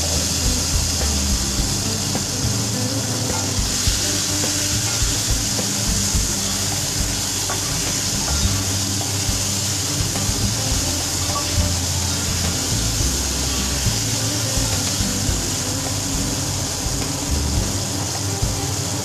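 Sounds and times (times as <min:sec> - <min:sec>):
mango pieces sizzling in oil: 0:00.0 - 0:19.0.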